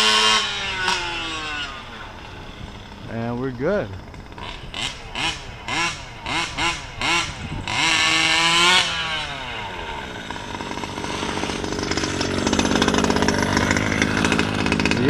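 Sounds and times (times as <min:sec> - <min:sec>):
small gas engine revving: 0:00.0 - 0:15.0.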